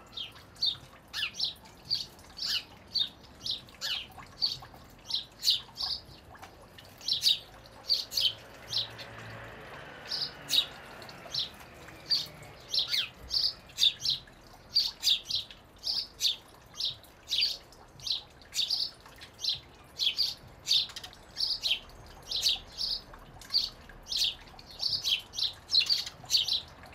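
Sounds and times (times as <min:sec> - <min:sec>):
sparrows chirping: 0:00.0 - 0:26.9.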